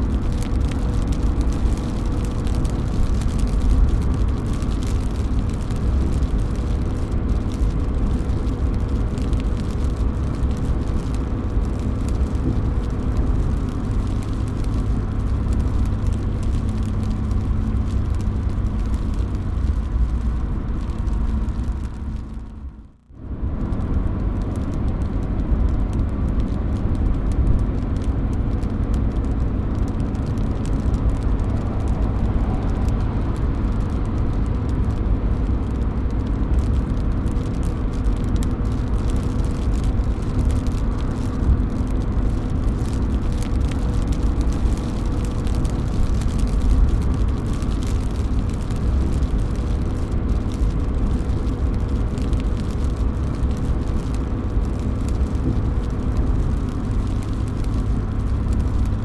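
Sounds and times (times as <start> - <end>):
rain falling: 0.0 - 59.0
raindrops dripping from roof: 0.0 - 59.0.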